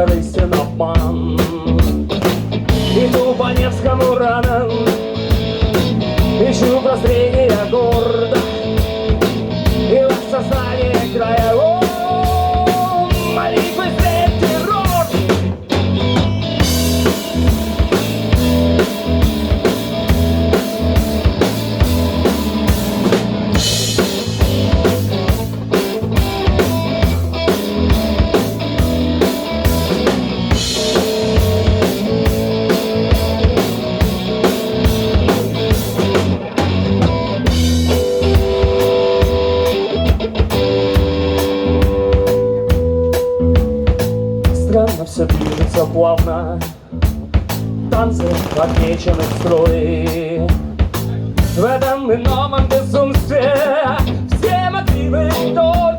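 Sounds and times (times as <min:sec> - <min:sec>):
rock band instrumental: 0:00.0 - 0:55.9.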